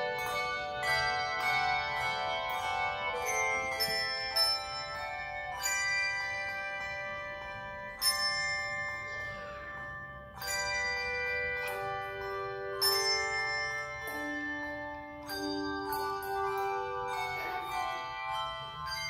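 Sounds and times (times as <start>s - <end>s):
handbell choir ringing chords: 0.0s - 19.0s.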